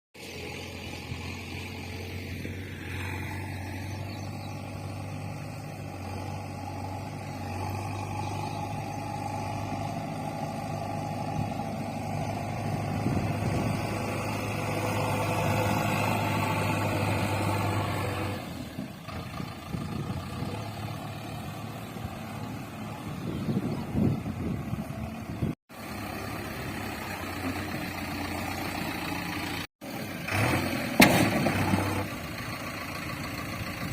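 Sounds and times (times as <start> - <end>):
engine running: 0.2 - 33.9.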